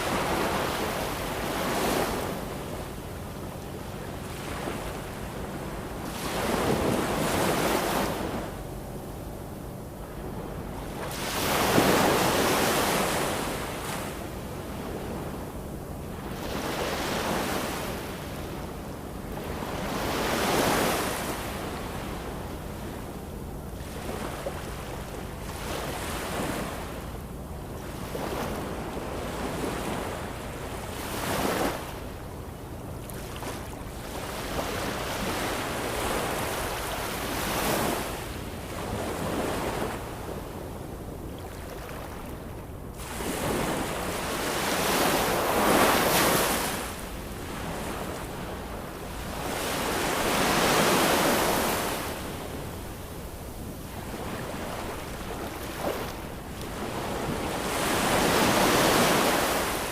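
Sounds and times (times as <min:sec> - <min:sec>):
ocean waves breaking on shore: 0:00.0 - 0:08.6, 0:10.0 - 0:23.2, 0:23.8 - 0:59.9.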